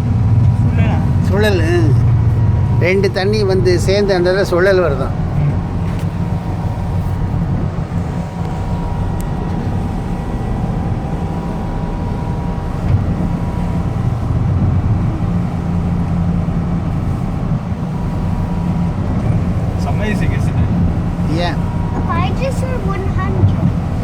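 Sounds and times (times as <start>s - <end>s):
boat engine humming: 0.0s - 24.0s
water noise: 0.0s - 24.0s
wind: 0.0s - 24.0s.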